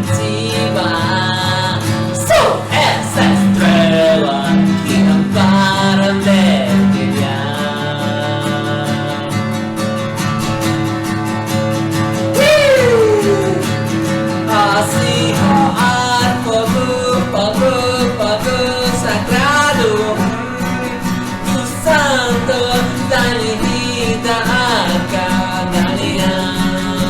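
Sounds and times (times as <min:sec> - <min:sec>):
person singing: 0:00.0 - 0:09.6, 0:12.3 - 0:27.0
strummed acoustic guitar: 0:00.0 - 0:27.0.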